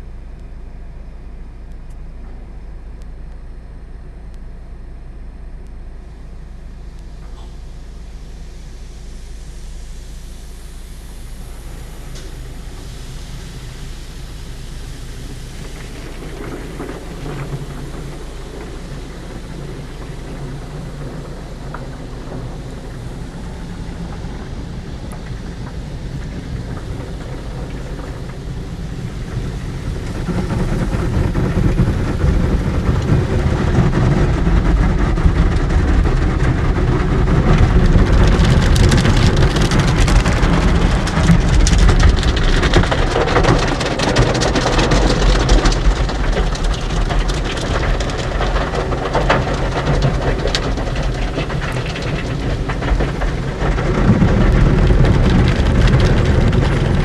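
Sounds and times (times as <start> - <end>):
low rumble: 0.0 - 57.0
hissing spray and crackle: 6.6 - 57.0
water spraying on car body: 7.4 - 57.0.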